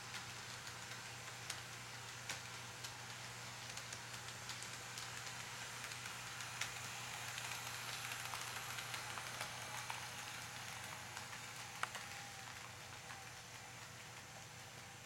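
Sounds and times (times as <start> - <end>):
model train motor and wheels hissing: 0.0 - 15.0
small clicks on track: 0.1 - 14.4.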